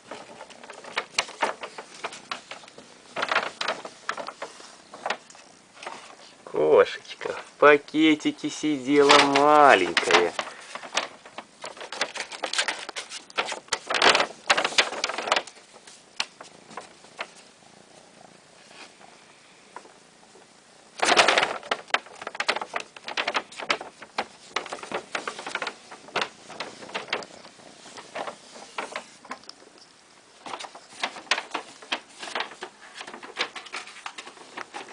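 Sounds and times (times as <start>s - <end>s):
plastic bag crinkling: 0.0s - 17.6s, 20.8s - 34.9s.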